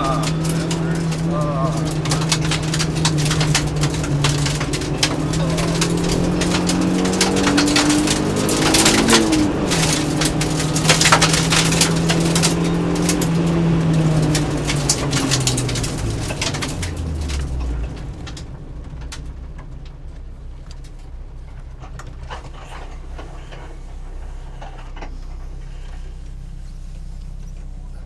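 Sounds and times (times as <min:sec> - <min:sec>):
gravel pinging on underbody: 0:00.0 - 0:28.0
rally car engine from inside: 0:00.0 - 0:28.0.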